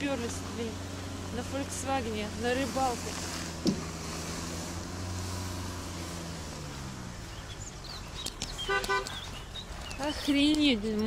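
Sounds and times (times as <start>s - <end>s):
birds chirping: 0.0s - 11.0s
car engine running: 0.0s - 11.0s.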